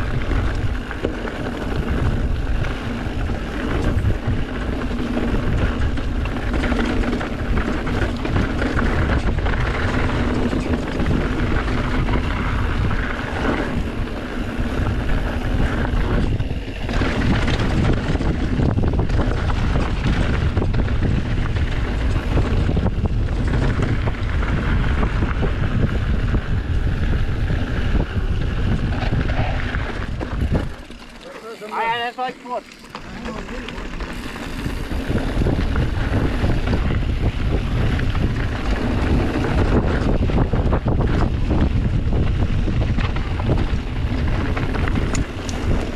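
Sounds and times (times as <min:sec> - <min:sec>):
wind rushing over microphone: 0:00.0 - 0:31.2, 0:31.8 - 0:45.9
bike rattling over rough ground: 0:00.0 - 0:45.9
bike tyres rolling: 0:00.0 - 0:45.9.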